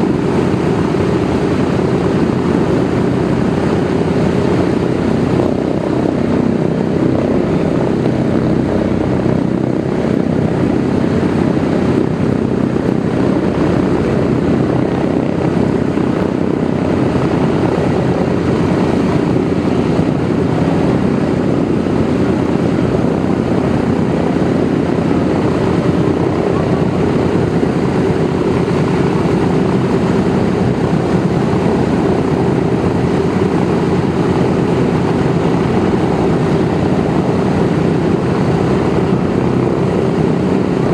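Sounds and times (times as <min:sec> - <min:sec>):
propeller aircraft engines droning: 0:00.0 - 0:40.9.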